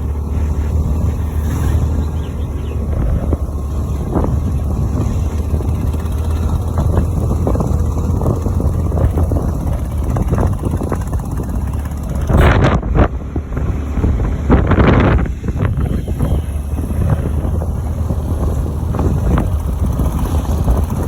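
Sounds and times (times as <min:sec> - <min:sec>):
vehicle interior rumble: 0:00.0 - 0:21.0.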